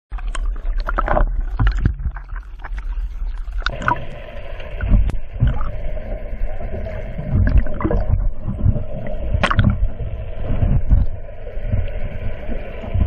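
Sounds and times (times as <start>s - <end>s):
steady hum: 0.1s - 13.0s
water sloshing and gurgling: 0.1s - 13.0s.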